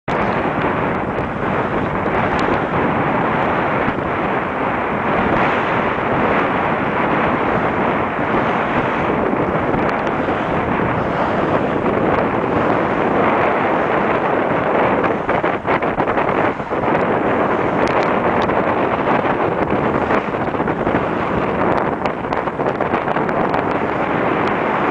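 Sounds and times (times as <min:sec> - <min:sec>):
water rushing along hull: 0:00.0 - 0:24.9
wind buffeting microphone: 0:00.0 - 0:24.9.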